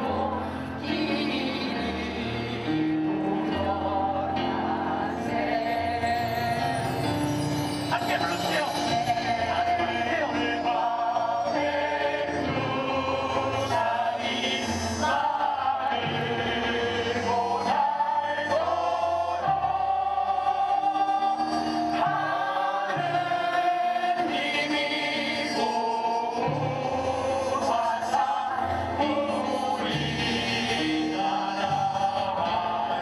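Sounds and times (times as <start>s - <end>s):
crowd singing in chorus: 0.0s - 33.0s
musical accompaniment: 0.0s - 33.0s.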